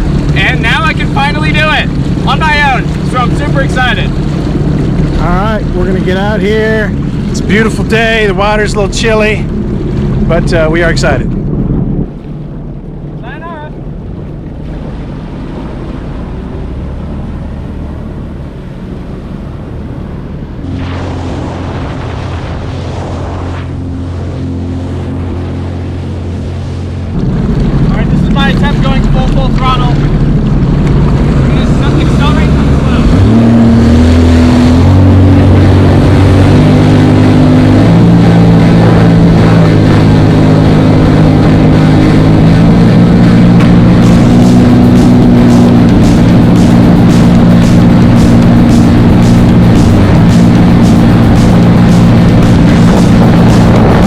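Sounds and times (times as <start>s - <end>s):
jet ski engine running: 0.0s - 54.0s
water rushing: 0.0s - 54.0s
wind on microphone: 0.0s - 54.0s.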